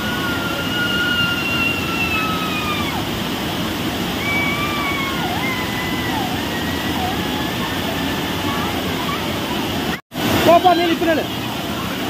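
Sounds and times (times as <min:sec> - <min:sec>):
waterfall pouring and splashing: 0:00.0 - 0:12.0.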